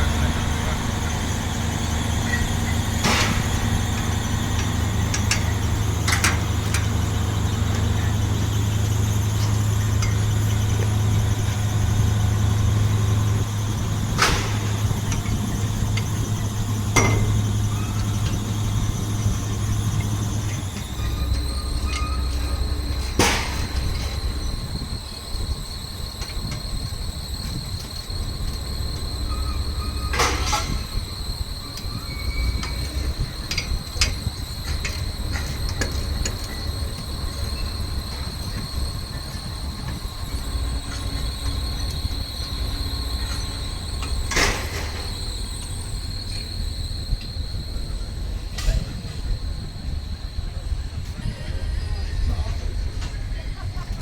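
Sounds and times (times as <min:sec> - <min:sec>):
mechanical hum with squeal: 0:00.0 - 0:54.0.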